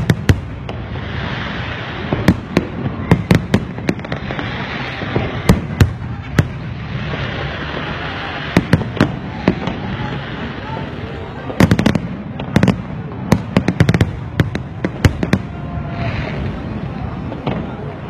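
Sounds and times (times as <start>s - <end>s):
steady hiss: 0.0s - 15.0s
fireworks bursting with sharp bangs: 0.0s - 18.0s.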